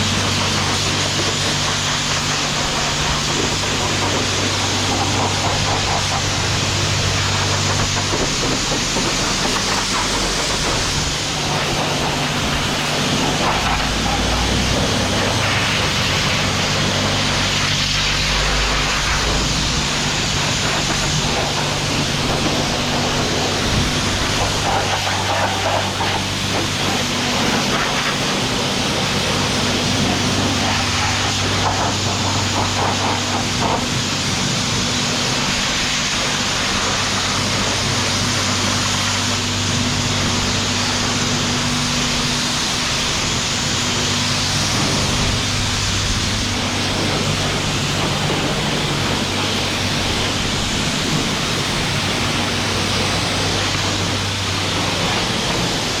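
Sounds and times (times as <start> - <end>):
motor humming: 0.0 - 56.0
pressure washer water jet hissing: 0.0 - 56.0.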